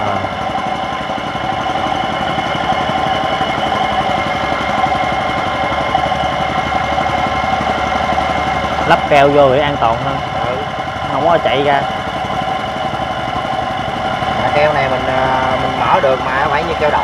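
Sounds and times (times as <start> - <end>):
engine running with rattle: 0.0 - 17.0.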